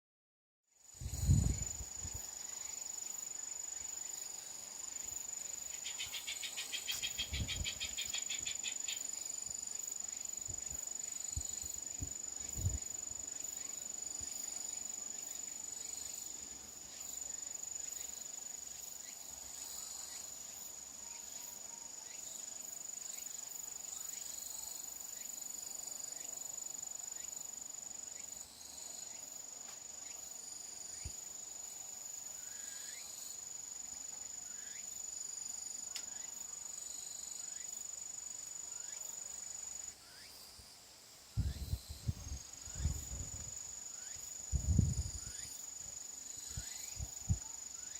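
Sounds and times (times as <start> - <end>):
rapid pulsing insect call: 0.7 - 47.9
insects trilling: 0.8 - 47.9.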